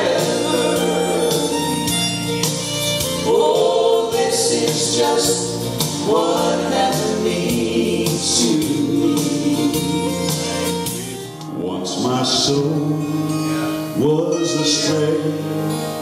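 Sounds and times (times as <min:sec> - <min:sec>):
vocal trio singing in harmony: 0:00.0 - 0:02.4, 0:03.0 - 0:16.0
instrumental backing: 0:00.0 - 0:16.0.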